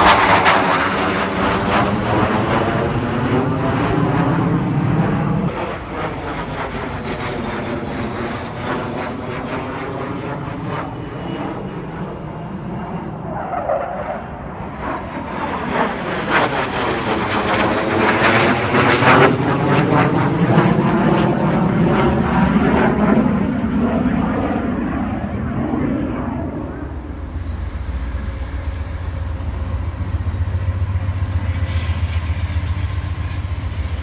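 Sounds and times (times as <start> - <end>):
jet roar passing overhead: 0.0 - 34.0.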